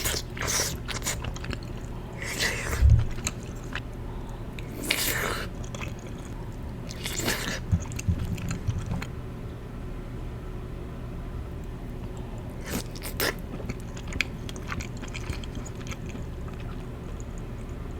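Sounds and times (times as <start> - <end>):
person chewing food: 0.0 - 9.1, 12.2 - 17.9.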